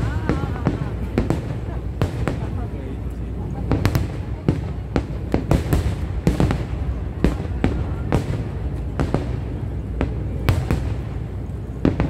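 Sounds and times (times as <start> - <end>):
distant fireworks rumble: 0.0 - 12.0
fireworks bangs: 0.0 - 12.0.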